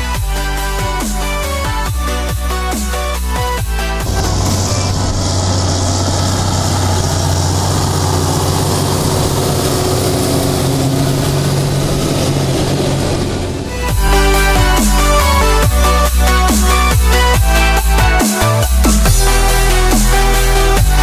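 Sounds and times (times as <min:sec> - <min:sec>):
tractor diesel engine running: 0:00.2 - 0:21.0.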